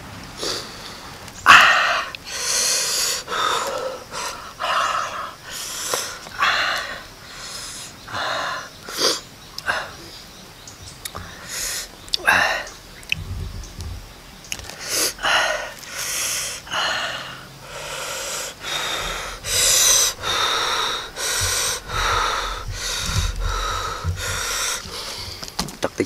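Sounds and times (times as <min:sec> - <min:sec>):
man breathing hard in puffs: 0:00.4 - 0:10.1, 0:11.2 - 0:12.8, 0:14.6 - 0:25.6.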